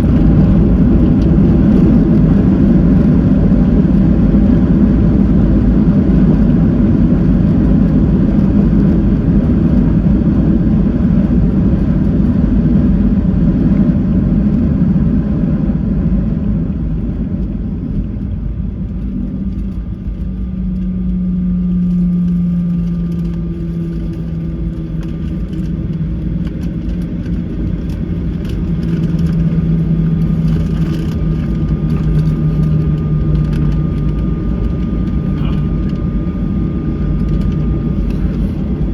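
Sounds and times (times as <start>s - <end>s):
engines and wheels rumbling: 0.0s - 38.9s
jet engine hum: 0.0s - 38.9s.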